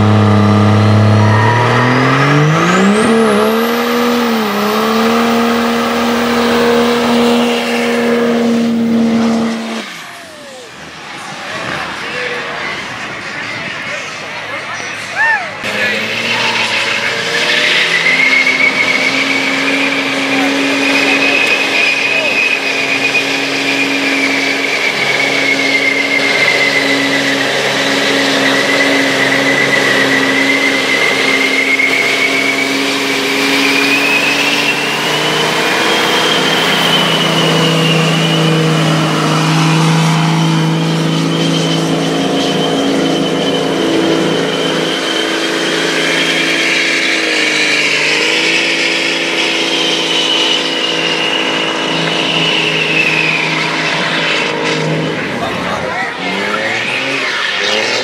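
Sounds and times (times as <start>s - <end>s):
diesel engine revving high: 0.0s - 58.0s.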